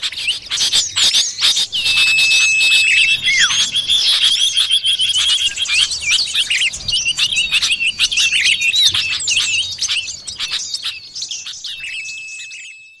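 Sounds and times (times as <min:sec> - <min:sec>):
bird chirping and whistling: 0:00.0 - 0:13.0.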